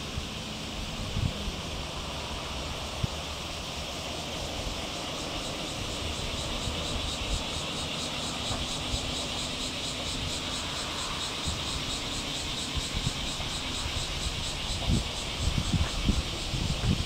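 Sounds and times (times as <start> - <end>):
steady outdoor hiss: 0.0 - 17.0
wind buffeting microphone: 0.0 - 17.0.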